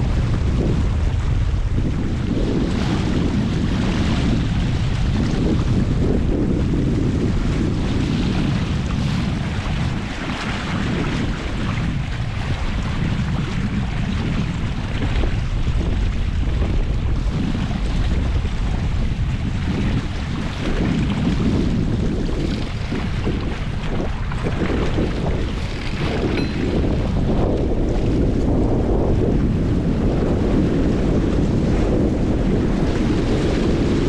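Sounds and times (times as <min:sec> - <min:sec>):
water rushing along hull: 0:00.0 - 0:34.0
wind buffeting microphone: 0:00.0 - 0:34.0.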